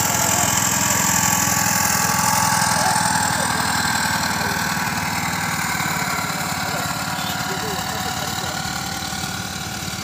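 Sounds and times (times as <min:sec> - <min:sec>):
small engine of rail trolley: 0:00.0 - 0:10.0.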